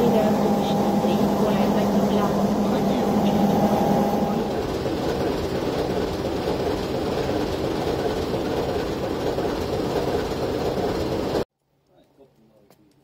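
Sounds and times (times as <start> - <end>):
diesel locomotive engine idling: 0.0 - 11.4.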